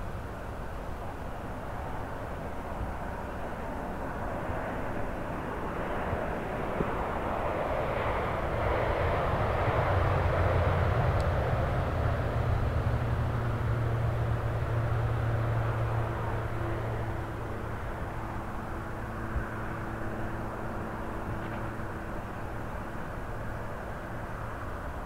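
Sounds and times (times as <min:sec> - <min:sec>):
jet engine noise: 0:00.0 - 0:25.0.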